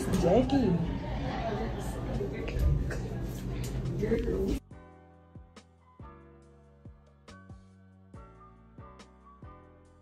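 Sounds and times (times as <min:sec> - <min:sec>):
quiet instrumental music: 0:00.0 - 0:10.0.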